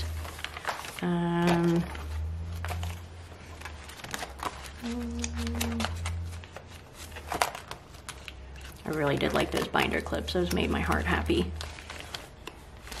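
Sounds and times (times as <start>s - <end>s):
plastic sleeves crinkling: 0.0s - 13.0s.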